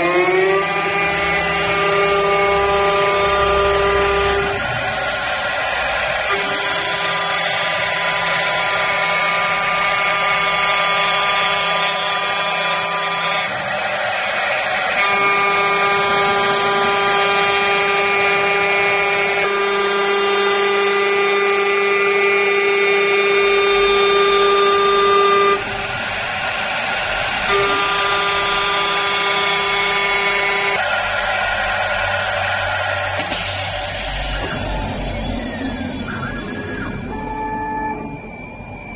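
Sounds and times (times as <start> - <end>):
lathe motor whine: 0.0 - 38.9.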